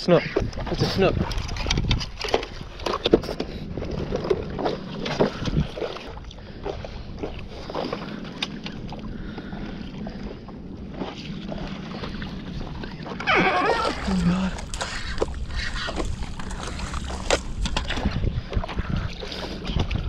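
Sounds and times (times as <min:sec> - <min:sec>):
water moving against a board: 0:00.2 - 0:20.0
wind on microphone: 0:00.3 - 0:20.0.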